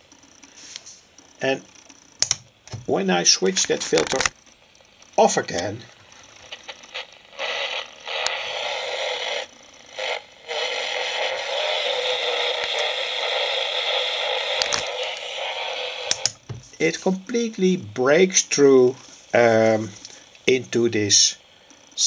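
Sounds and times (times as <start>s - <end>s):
distorted radio hiss from speaker: 0.0s - 22.0s.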